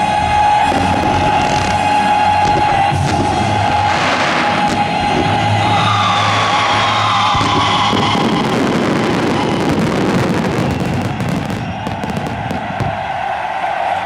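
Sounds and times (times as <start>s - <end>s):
rumble of firework bursts: 0.1s - 13.7s
fireworks crackling: 0.5s - 13.8s.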